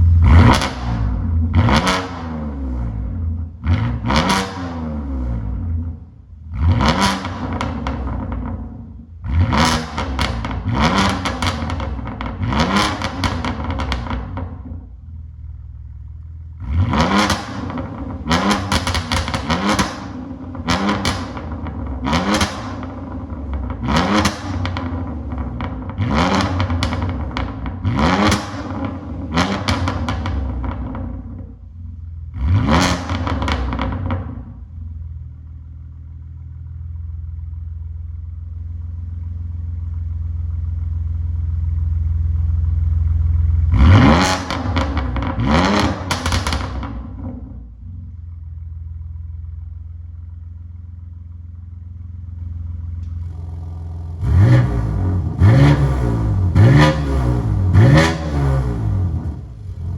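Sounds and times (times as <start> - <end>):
car engine idling: 0.0 - 4.1, 5.3 - 59.9
car engine revving: 0.0 - 34.8, 38.2 - 48.4, 49.0 - 59.9.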